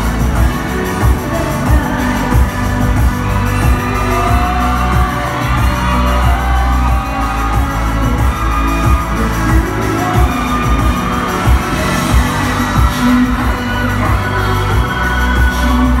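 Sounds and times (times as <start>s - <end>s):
heavy pulsing bass: 0.0s - 16.0s
live pop music through speakers: 0.0s - 16.0s
woman singing into microphone: 0.4s - 16.0s.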